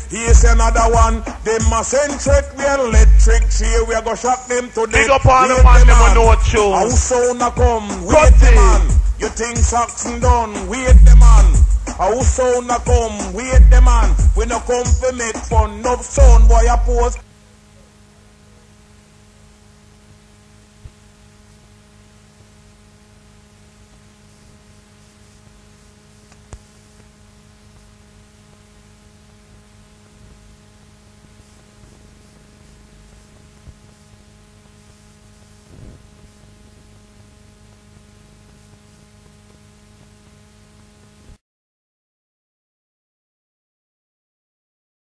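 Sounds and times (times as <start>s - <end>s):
electrical mains hum with hiss: 0.0s - 41.4s.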